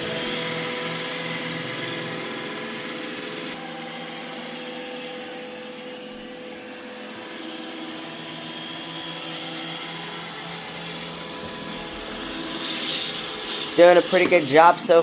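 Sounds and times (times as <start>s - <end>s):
high whine: 0.0s - 15.0s
robot vacuum whirring: 0.0s - 15.0s.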